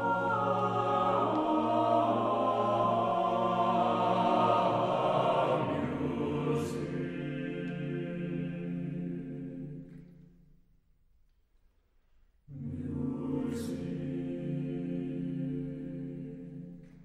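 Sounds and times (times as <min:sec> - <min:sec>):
mixed choir singing chords: 0:00.0 - 0:10.3, 0:12.5 - 0:17.0.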